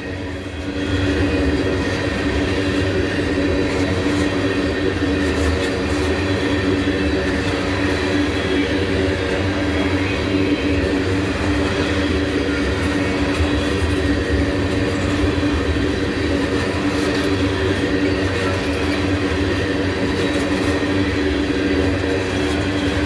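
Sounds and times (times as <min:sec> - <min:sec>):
freight train rolling past: 0:00.0 - 0:23.0
steel wheels growling on rails: 0:00.0 - 0:23.0.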